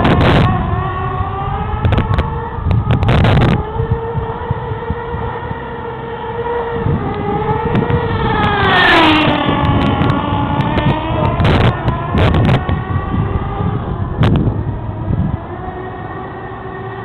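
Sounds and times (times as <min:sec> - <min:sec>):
small engine high-pitched whine: 0:00.0 - 0:17.0.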